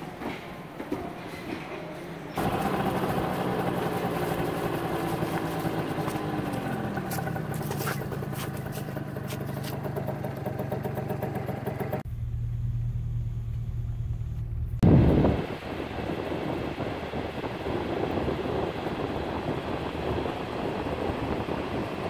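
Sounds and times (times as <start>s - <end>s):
vehicle engine running: 2.4s - 22.0s.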